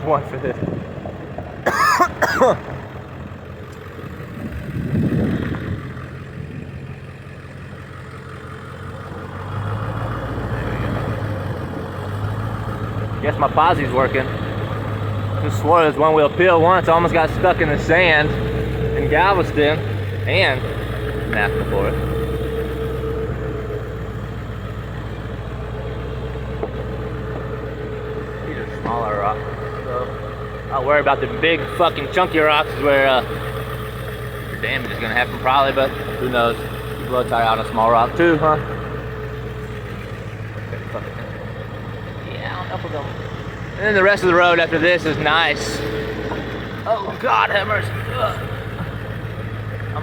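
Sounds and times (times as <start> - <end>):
van engine running: 0.0 - 50.0.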